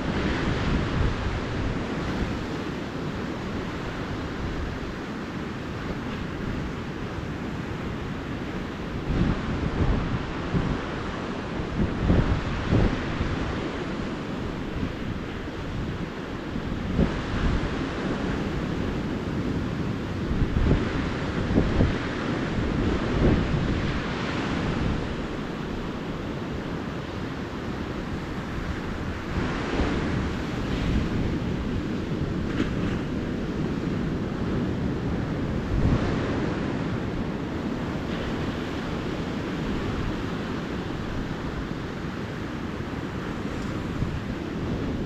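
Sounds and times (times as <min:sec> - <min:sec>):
ocean surf waves breaking: 0:00.0 - 0:45.0.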